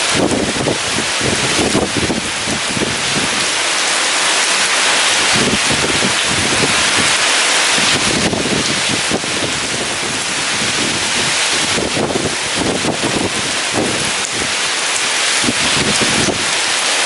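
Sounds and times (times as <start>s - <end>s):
heavy rain hiss: 0.0s - 17.0s
wind gusts: 0.0s - 17.0s.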